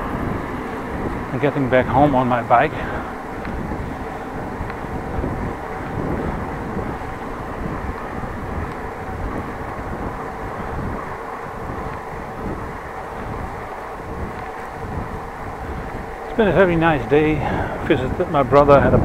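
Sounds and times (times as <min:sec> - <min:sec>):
bicycle tyres on road: 0:00.0 - 0:19.0
wind on microphone: 0:00.0 - 0:19.0.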